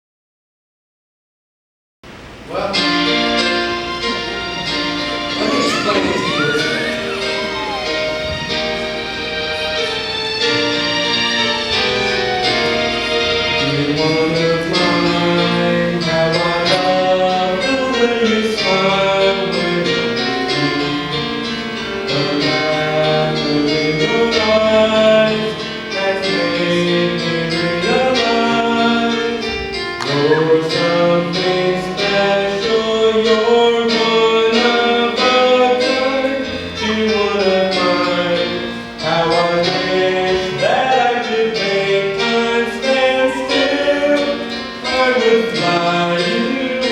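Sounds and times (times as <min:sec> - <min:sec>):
musical theatre song: 0:02.1 - 0:46.9.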